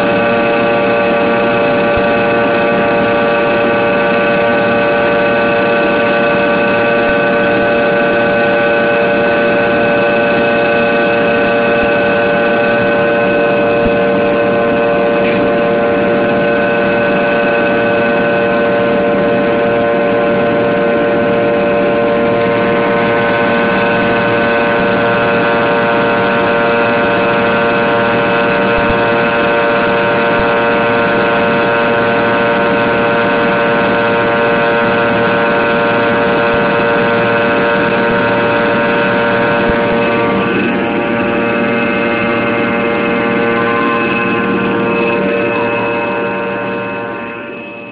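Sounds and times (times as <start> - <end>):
jet engine whining drone: 0.0 - 47.9.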